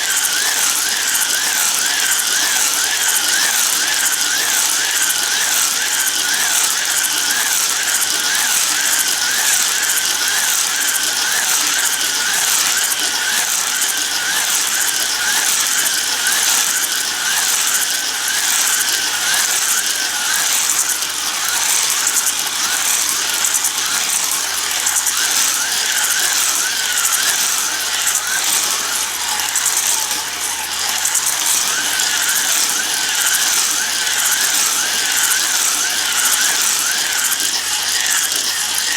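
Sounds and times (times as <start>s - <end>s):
plastic gears buzzing: 0.0s - 38.9s
toy slot car motors whining: 0.0s - 38.9s.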